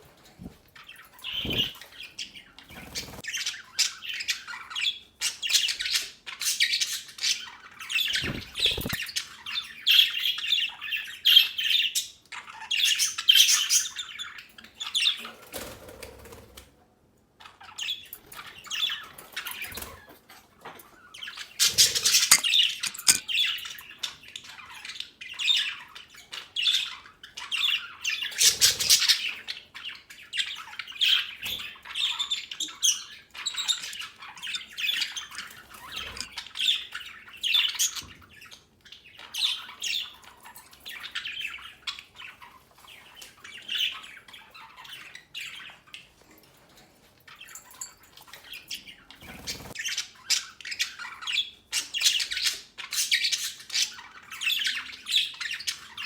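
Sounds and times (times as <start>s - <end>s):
budgerigars chattering and squawking: 0.0s - 16.6s, 17.4s - 46.3s, 47.2s - 56.0s.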